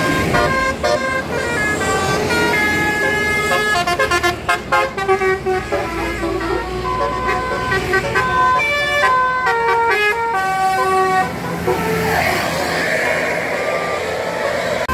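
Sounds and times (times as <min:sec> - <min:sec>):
multi-tone air horns playing melody: 0:00.0 - 0:12.4.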